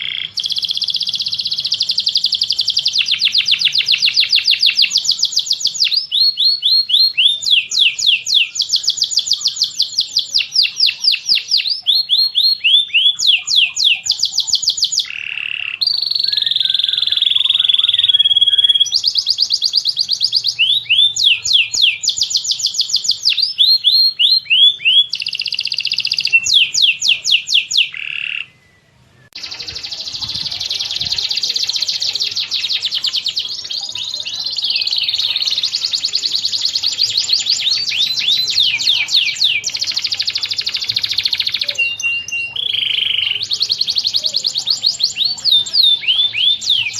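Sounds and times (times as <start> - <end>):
birds chirping and warbling: 0.0 - 46.9.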